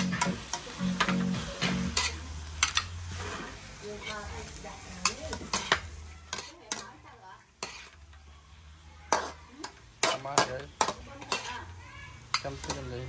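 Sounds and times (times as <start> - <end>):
utensils scraping a steel wok: 0.0 - 8.3, 9.1 - 13.0
faint sizzle: 0.0 - 13.0.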